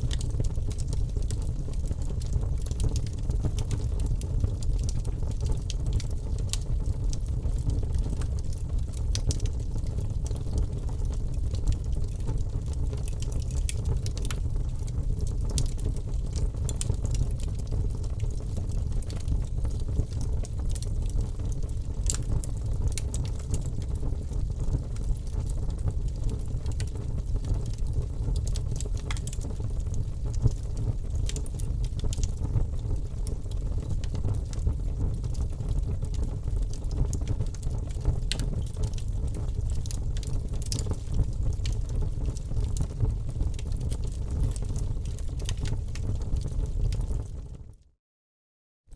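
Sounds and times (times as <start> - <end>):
wood fire crackling: 0.0 - 47.3.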